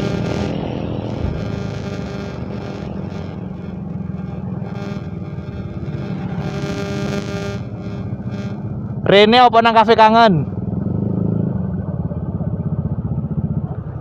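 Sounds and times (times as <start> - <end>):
motorcycle engine at low revs: 0.0 - 9.1, 10.5 - 14.0.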